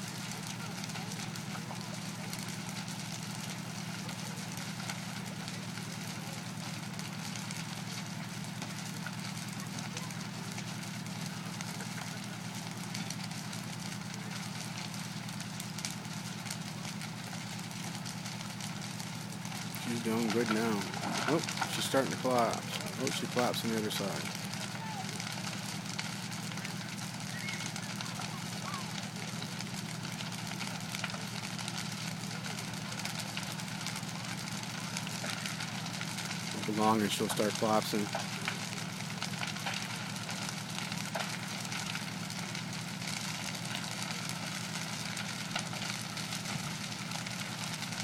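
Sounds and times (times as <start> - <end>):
burning wood crackling and popping: 0.0 - 48.0
fire truck engine idling: 0.1 - 48.0.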